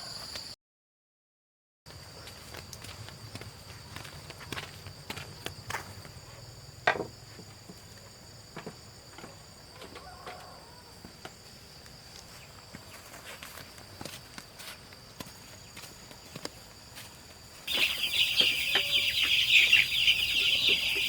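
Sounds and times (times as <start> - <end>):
high insect drone: 3.3 - 21.0.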